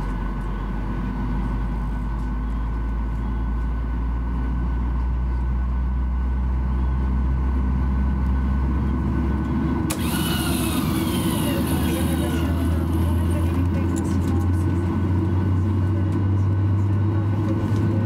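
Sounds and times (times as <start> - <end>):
airliner cabin drone: 0.0 - 18.0.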